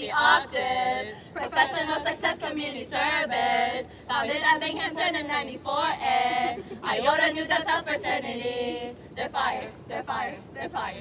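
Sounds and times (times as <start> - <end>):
women singing: 0.0 - 11.0.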